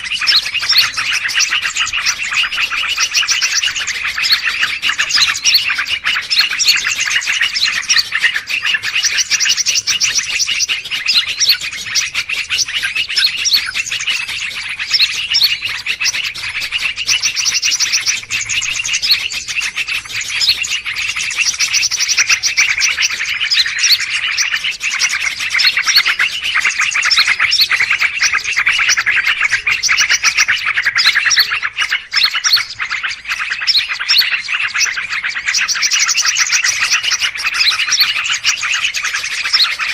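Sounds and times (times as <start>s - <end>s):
songbirds chirping and chattering: 0.0s - 39.9s.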